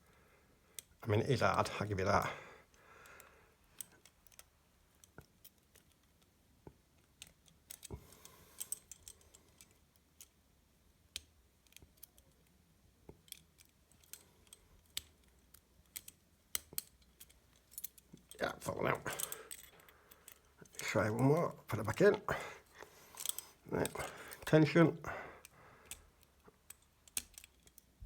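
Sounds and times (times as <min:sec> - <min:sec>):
small metallic clicks and scratches: 0:00.7 - 0:01.0, 0:03.7 - 0:24.6, 0:25.4 - 0:28.0.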